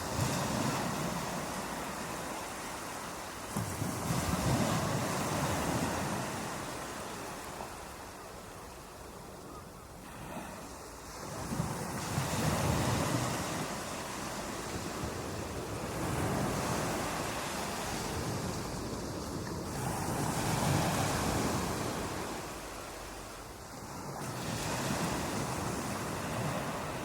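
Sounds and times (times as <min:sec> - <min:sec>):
ocean waves breaking: 0:00.0 - 0:08.2, 0:10.0 - 0:27.0.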